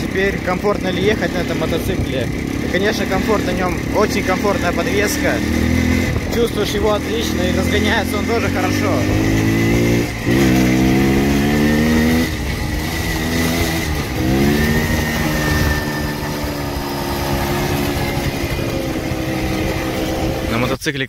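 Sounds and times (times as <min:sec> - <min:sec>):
two-stroke motorcycle accelerating: 0:00.0 - 0:20.8.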